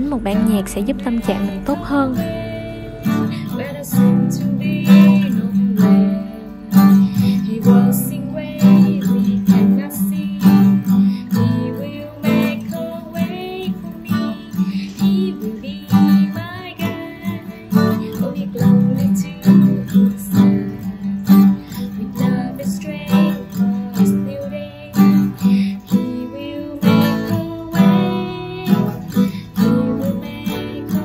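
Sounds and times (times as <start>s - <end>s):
acoustic guitar strumming chords: 0.0s - 31.0s
woman singing softly: 0.0s - 31.0s.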